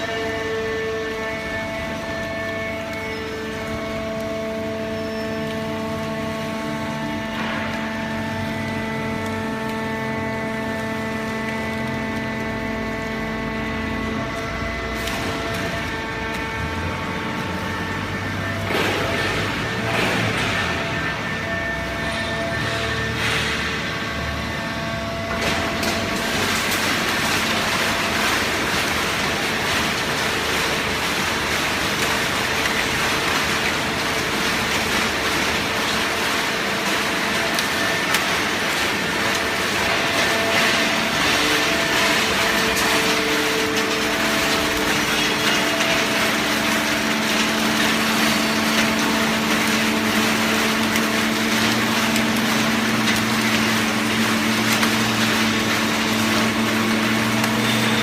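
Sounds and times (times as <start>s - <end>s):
hydraulic pump hum: 0.0s - 58.0s.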